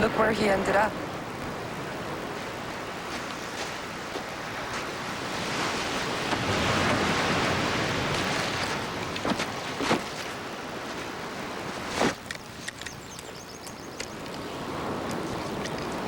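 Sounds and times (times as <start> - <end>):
ocean surf washing in: 0.0 - 12.6, 14.0 - 16.0.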